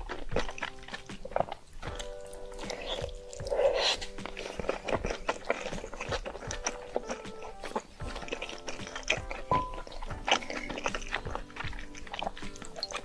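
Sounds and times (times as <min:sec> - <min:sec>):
background music: 0:00.0 - 0:13.0
chewing noodles: 0:00.0 - 0:13.0.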